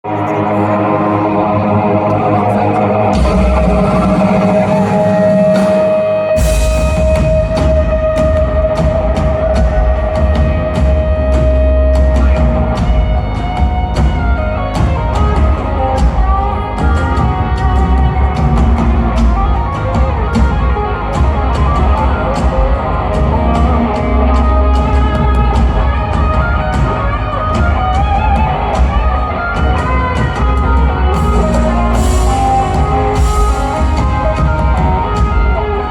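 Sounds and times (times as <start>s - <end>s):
bass guitar: 0.0s - 35.9s
electric guitars: 0.0s - 35.9s
drum kit: 3.0s - 35.9s.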